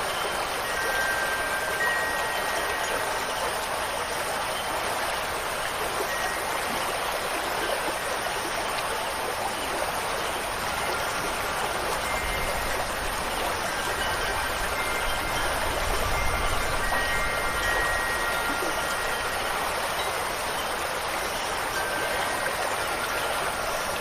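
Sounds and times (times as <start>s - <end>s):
high wind chime notes: 0.0s - 6.8s, 10.5s - 24.0s
rush of running water: 0.0s - 24.0s.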